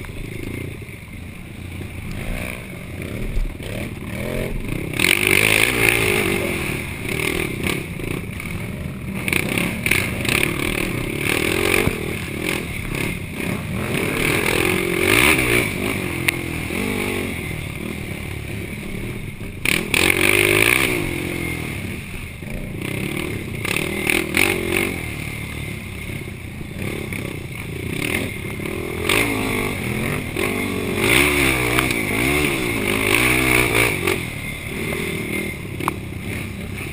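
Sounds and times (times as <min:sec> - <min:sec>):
quad engine revving: 0:01.8 - 0:36.9.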